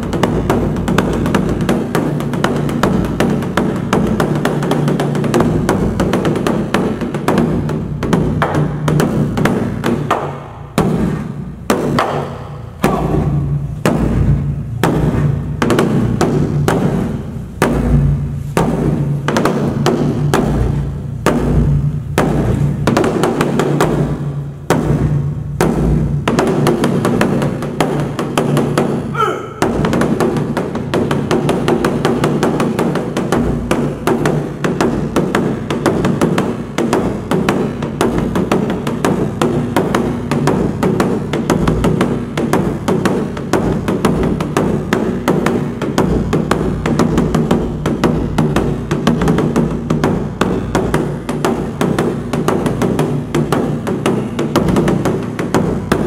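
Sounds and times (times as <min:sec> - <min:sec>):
large barrel drum booming: 0:00.0 - 0:56.0.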